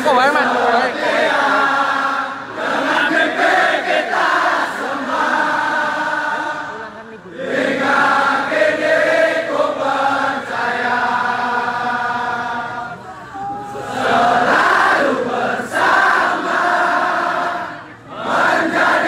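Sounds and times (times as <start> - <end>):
crowd chanting in unison: 0.0 - 19.0.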